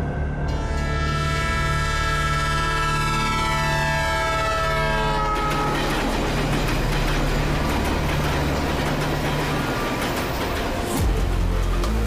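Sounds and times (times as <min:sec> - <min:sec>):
train wheels on rails: 0:02.2 - 0:12.0.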